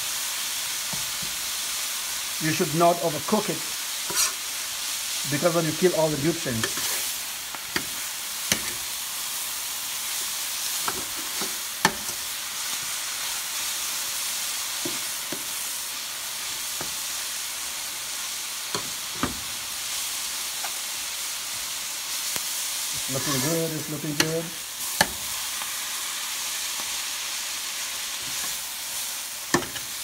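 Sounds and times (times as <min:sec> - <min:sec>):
greens sizzling in a skillet: 0:00.0 - 0:30.0.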